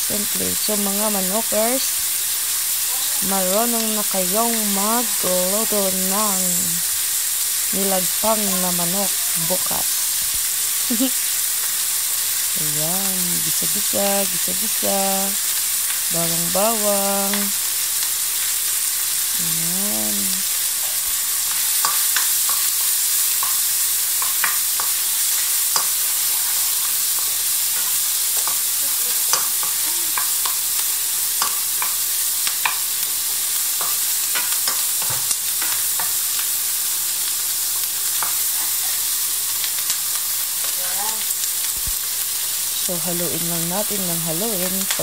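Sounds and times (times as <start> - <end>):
onions sizzling in a frying pan: 0.0 - 45.0.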